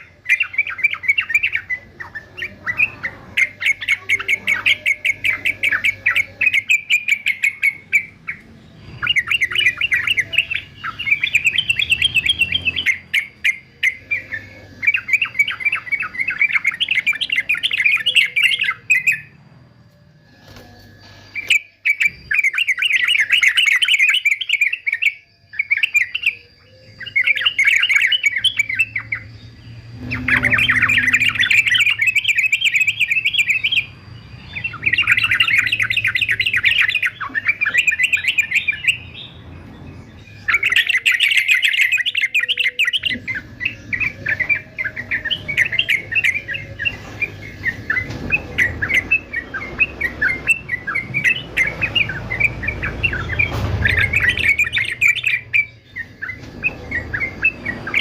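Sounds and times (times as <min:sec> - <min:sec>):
bird singing chattering notes: 0:00.0 - 0:58.0.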